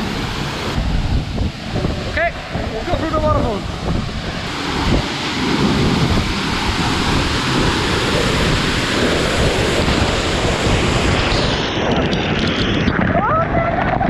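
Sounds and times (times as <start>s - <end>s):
spray buffeting microphone: 0.0s - 14.0s
waterfall pouring: 0.0s - 14.0s.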